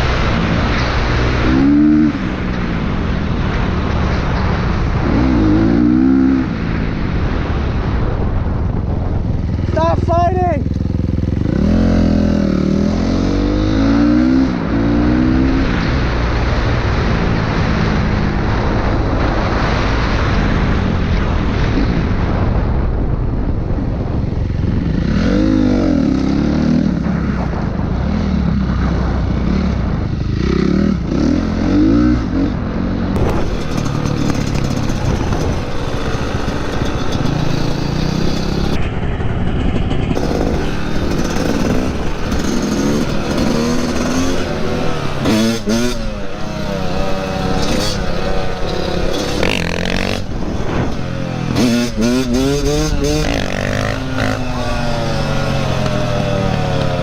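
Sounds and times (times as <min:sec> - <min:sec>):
dirt bike engines revving: 0:00.0 - 0:08.4, 0:09.4 - 0:22.1, 0:24.4 - 0:57.0
wind and road noise: 0:00.0 - 0:57.0.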